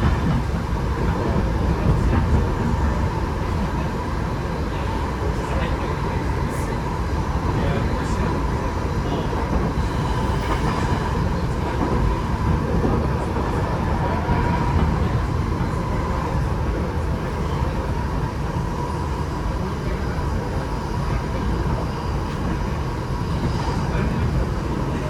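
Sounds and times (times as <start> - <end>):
steady train hum: 0.0 - 25.0
train wheels rumbling on rail: 0.0 - 25.0.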